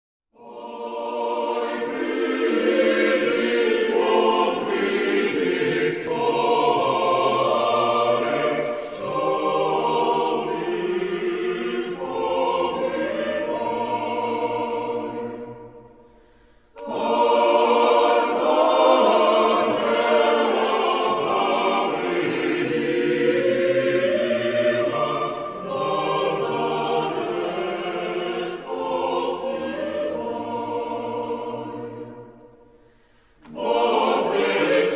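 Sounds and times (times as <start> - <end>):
choir singing: 0.3 - 34.9.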